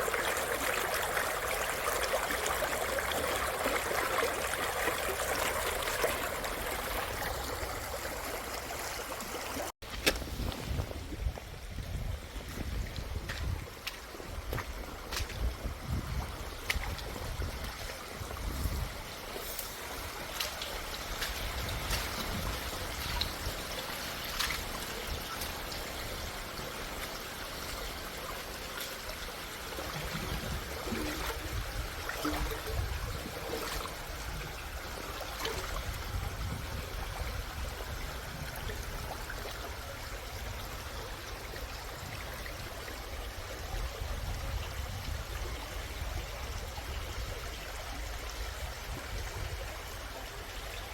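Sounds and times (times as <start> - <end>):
stream rushing over rocks: 0.0 - 11.3, 11.9 - 50.9
water splashes and trickles: 0.0 - 50.9.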